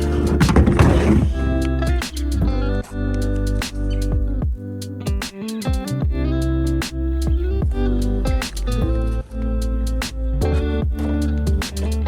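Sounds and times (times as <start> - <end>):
guitar-led music with heavy bass: 0.0 - 12.0.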